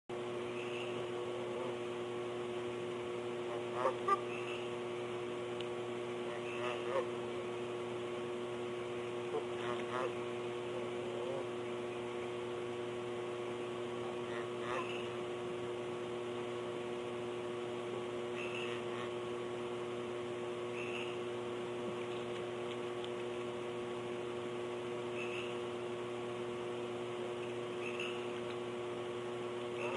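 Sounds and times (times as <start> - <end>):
electrical hum with hiss: 0.1 - 29.9.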